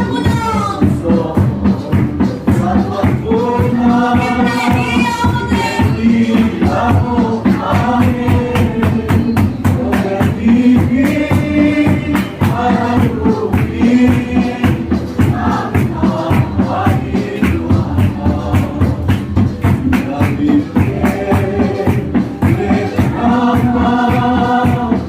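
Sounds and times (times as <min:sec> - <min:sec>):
choir singing gospel: 0:00.0 - 0:25.0
drums beating: 0:00.0 - 0:25.0
shaken percussion: 0:00.0 - 0:25.0.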